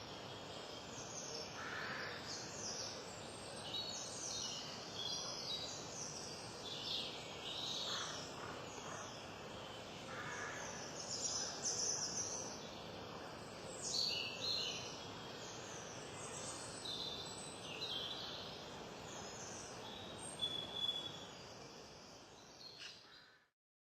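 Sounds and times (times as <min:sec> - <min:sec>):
outdoor background hiss: 0:00.0 - 0:23.5
songbirds chirping: 0:00.0 - 0:23.5.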